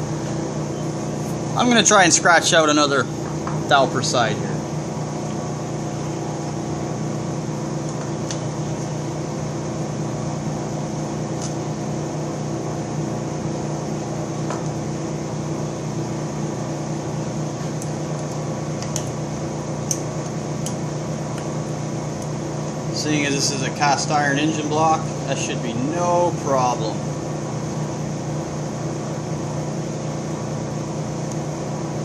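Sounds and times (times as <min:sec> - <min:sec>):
shop machinery humming: 0:00.0 - 0:32.0.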